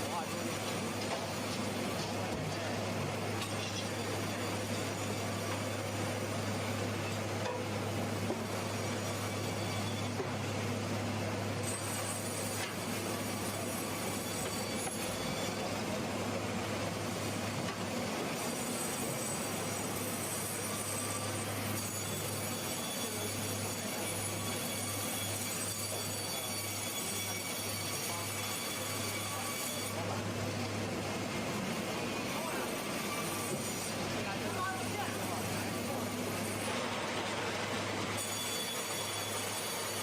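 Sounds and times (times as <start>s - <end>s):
sawmill machinery humming: 0.0s - 40.0s.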